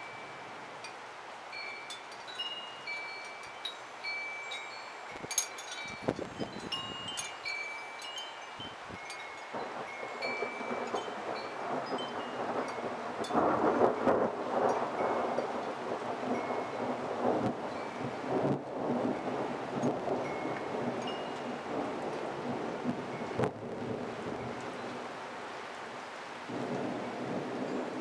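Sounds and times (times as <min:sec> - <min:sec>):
wind chimes ringing: 0:00.0 - 0:23.5, 0:24.4 - 0:24.9
rushing wind: 0:00.0 - 0:28.0.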